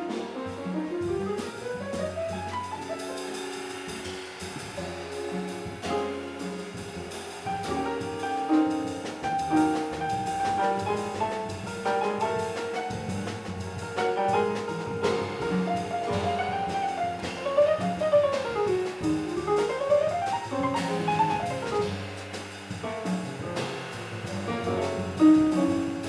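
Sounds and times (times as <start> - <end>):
upright bass: 0.0 - 2.9, 4.5 - 26.0
drums: 0.0 - 26.0
grand piano soloing: 0.0 - 26.0
small jazz group playing: 0.0 - 26.0.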